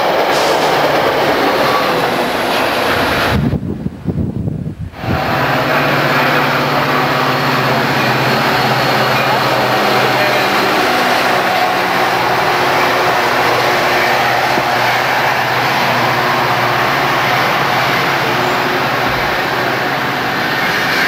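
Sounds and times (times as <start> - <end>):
locomotive engine drone: 0.0 - 21.0
train wheels rumbling on rails: 0.0 - 21.0.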